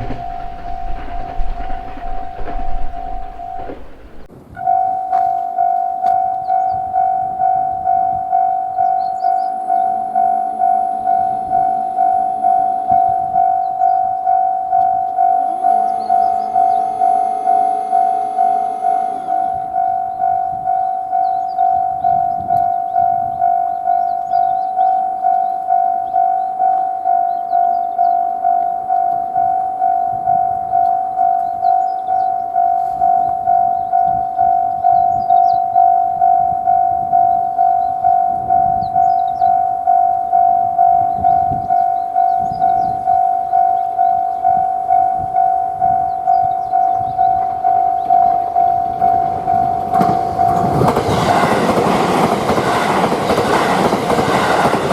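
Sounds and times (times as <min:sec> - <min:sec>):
level-crossing alarm ringing: 0:00.0 - 0:54.9.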